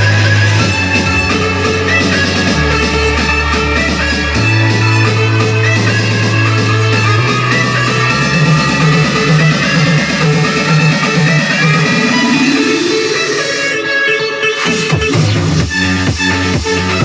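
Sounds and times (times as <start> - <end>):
rock music through speakers: 0.0 - 17.0.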